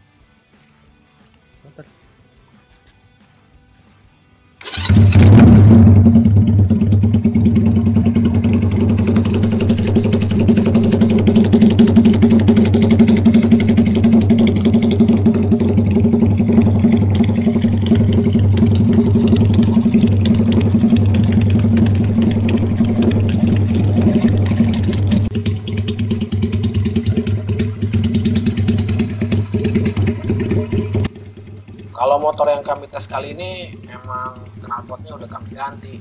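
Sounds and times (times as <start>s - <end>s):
motorcycle engine starting and idling: 4.6s - 36.0s.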